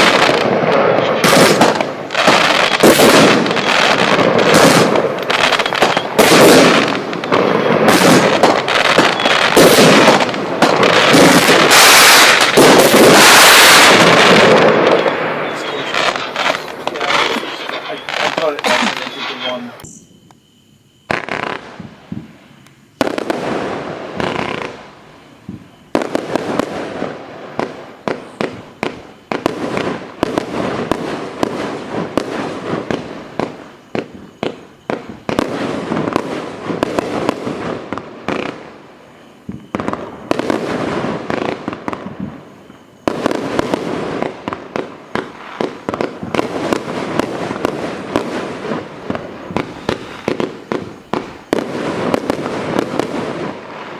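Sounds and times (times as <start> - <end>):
fireworks shots and bursting shells: 0.0 - 53.9.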